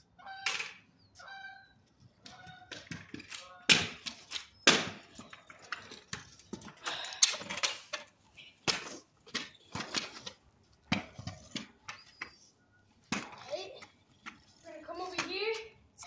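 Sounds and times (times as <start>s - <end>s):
kick scooter on concrete: 2.0s - 12.4s, 13.0s - 15.8s.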